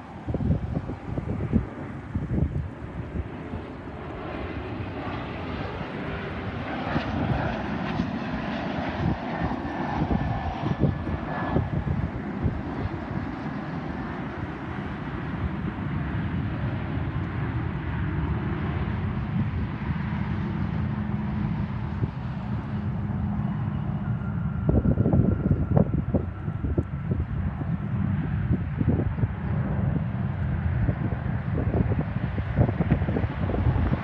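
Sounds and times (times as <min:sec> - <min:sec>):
jet engines rumble and hiss: 0:00.0 - 0:34.0.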